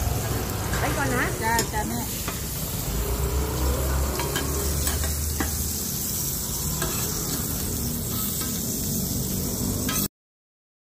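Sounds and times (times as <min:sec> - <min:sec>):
omelette sizzling in oil: 0:00.0 - 0:10.1.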